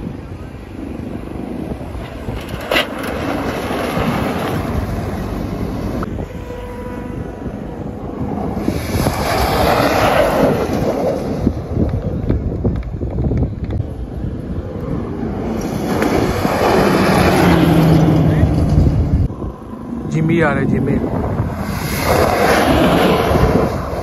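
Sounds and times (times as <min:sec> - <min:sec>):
trucks driving through sand: 0:00.0 - 0:24.0
wind buffeting microphone: 0:00.0 - 0:24.0.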